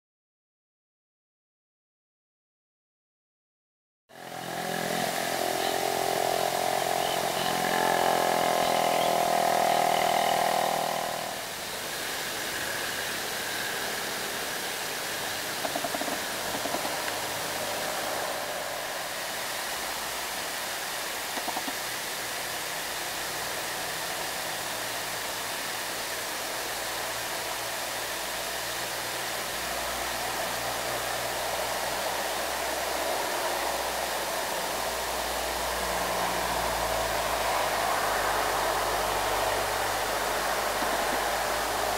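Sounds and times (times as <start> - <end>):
engine and road noise: 4.1 - 41.9
engine droning: 4.1 - 41.9.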